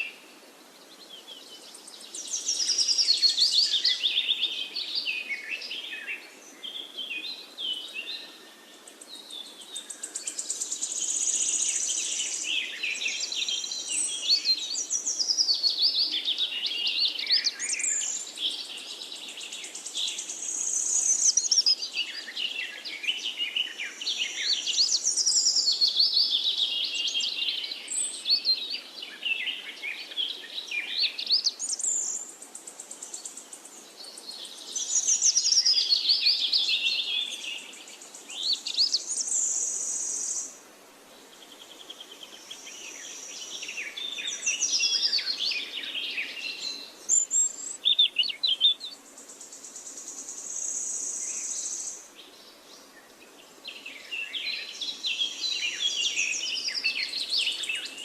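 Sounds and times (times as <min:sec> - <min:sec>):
faint steady background hiss: 0:00.0 - 0:58.0
songbirds singing: 0:00.0 - 0:58.0.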